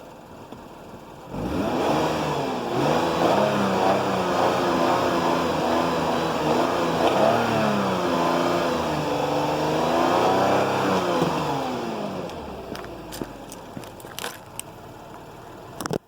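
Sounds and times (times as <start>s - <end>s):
car engine revving: 1.3s - 14.3s.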